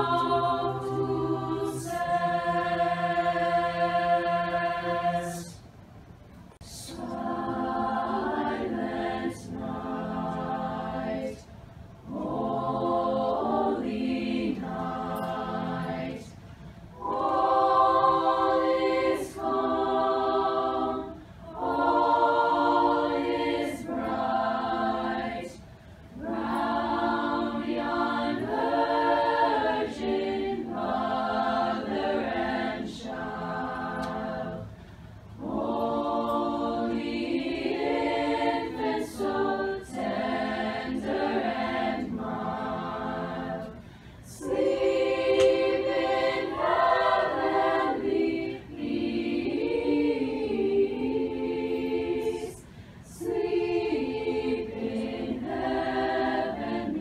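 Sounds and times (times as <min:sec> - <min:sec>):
choir singing: 0:00.0 - 0:05.6, 0:06.6 - 0:57.0.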